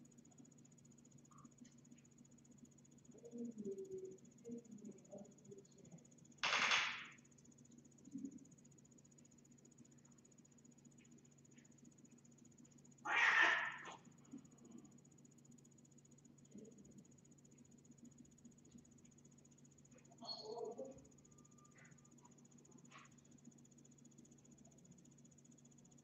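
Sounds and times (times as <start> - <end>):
faint electrical hum with whine: 0.0 - 26.0.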